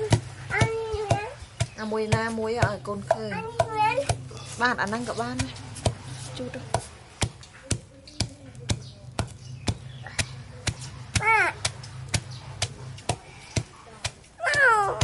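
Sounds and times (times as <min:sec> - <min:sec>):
pestle pounding in mortar: 0:00.0 - 0:15.0.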